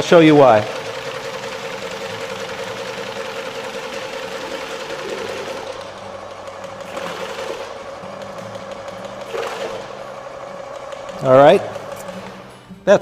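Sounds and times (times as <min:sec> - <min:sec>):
pump humming: 0:00.0 - 0:12.9.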